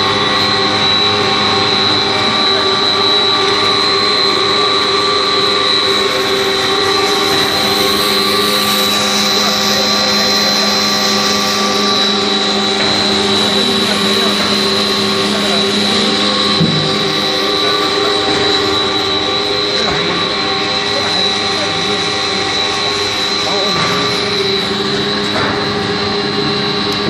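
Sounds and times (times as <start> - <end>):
extruder machine drone: 0.0 - 27.0
high mechanical whine: 0.0 - 27.0.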